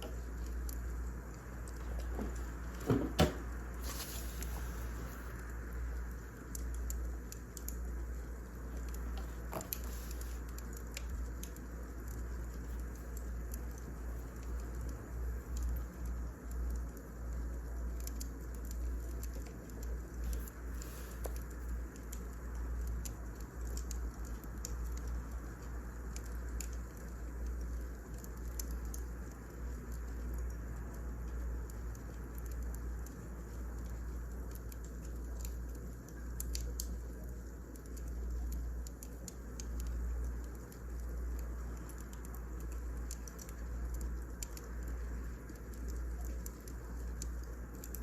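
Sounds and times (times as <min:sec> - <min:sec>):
fire low rumble: 0:00.0 - 0:48.0
firewood crackling and popping: 0:00.0 - 0:48.0.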